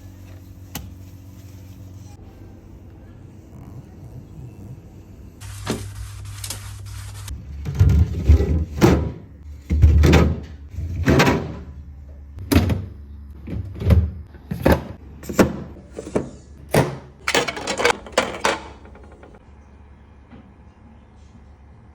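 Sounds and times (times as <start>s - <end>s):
refrigerator hum: 0.0s - 20.5s.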